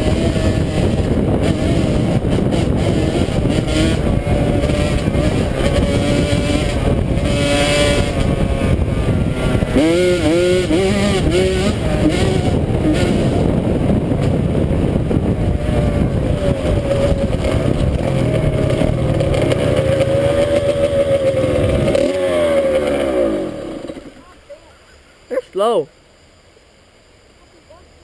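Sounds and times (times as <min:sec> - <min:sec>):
dirt bike engine revving: 0:00.0 - 0:24.2.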